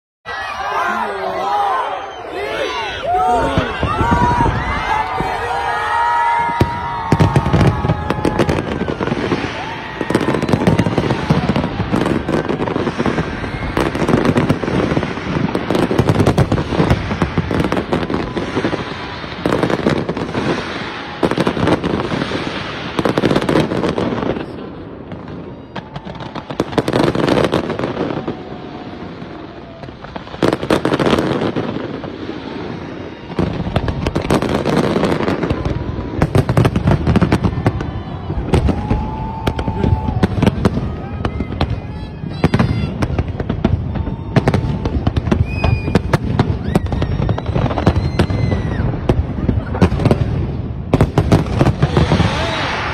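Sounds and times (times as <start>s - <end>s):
fireworks bangs and crackling: 0.4s - 52.9s.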